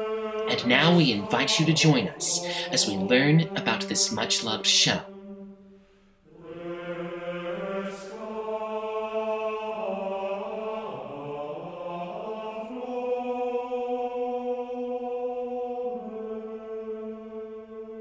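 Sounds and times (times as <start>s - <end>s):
choir chanting held chords: 0.0s - 18.0s.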